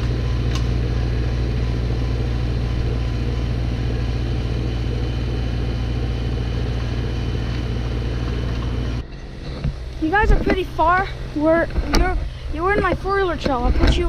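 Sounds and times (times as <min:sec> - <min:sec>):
snowblower engine running: 0:00.0 - 0:13.7.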